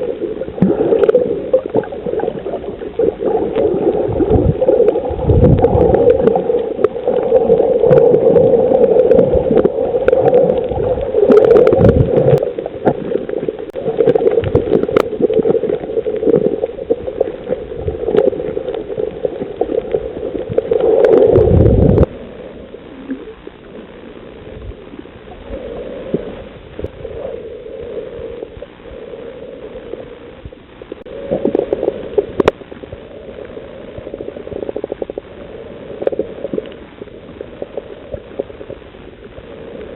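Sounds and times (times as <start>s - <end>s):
underwater gurgling and churning: 0.0s - 39.9s.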